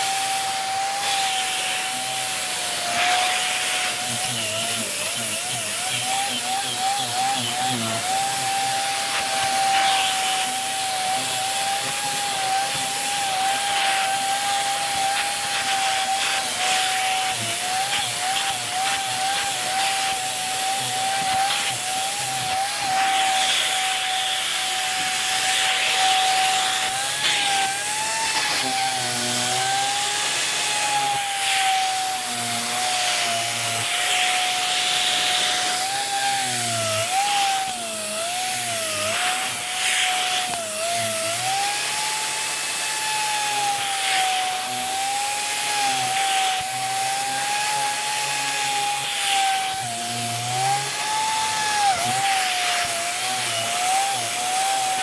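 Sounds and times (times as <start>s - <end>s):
brush scrubbing fabric: 0.0s - 42.8s, 43.4s - 55.0s
vacuum cleaner motor whine: 0.0s - 55.0s.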